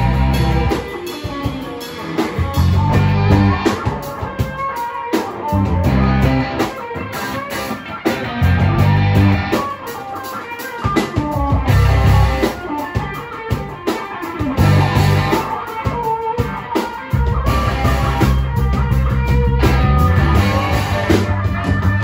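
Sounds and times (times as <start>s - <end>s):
heavy bass notes: 0.0s - 4.5s, 5.4s - 9.7s, 11.3s - 13.1s, 14.4s - 22.0s
live rock band playing: 0.0s - 22.0s.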